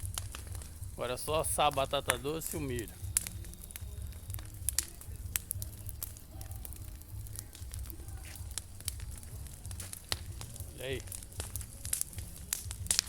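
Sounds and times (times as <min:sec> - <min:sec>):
bonfire crackling: 0:00.0 - 0:13.0
sharp pops of fire: 0:00.0 - 0:13.0.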